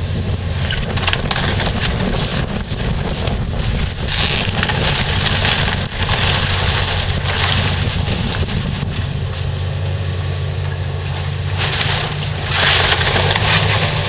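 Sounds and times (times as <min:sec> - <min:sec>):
diesel engine running: 0:00.0 - 0:14.0
falling debris clattering: 0:00.6 - 0:09.7, 0:10.7 - 0:14.0
splintering timber cracking: 0:00.6 - 0:09.9, 0:10.6 - 0:14.0.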